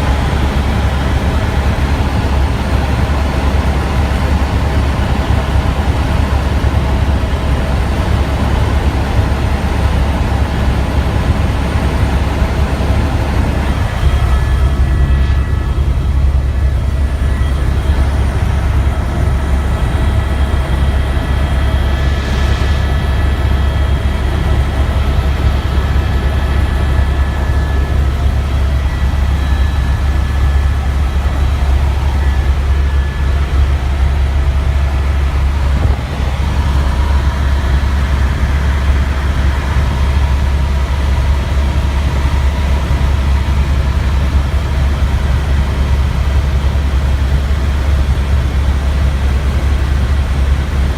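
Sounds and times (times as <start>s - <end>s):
high whining tones: 0.0s - 45.1s
helicopter drone: 0.0s - 50.9s.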